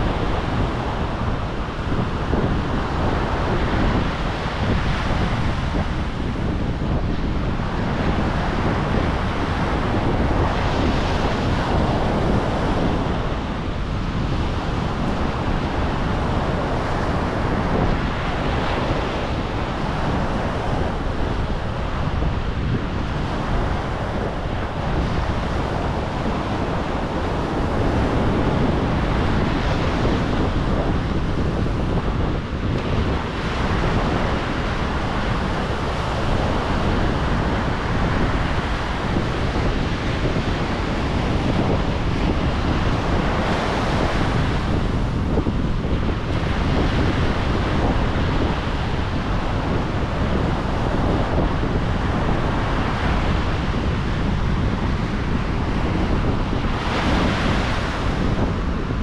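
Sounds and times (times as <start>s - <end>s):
ocean waves surf: 0.0s - 59.0s.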